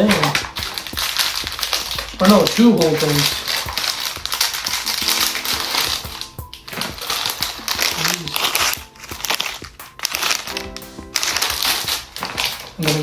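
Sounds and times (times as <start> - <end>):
background music: 0.0 - 13.0
plastic packaging crinkling: 0.0 - 13.0.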